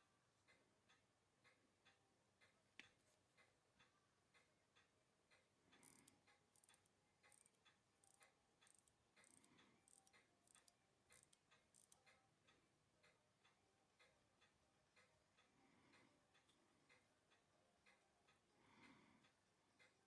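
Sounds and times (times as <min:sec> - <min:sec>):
watch ticking faintly: 0:00.4 - 0:20.0.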